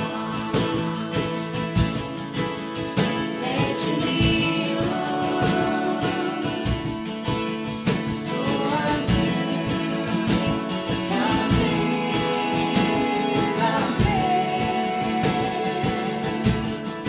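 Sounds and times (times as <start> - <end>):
woman singing slow melody: 0.0 - 2.1, 3.2 - 17.0
acoustic guitar strumming: 0.0 - 17.0.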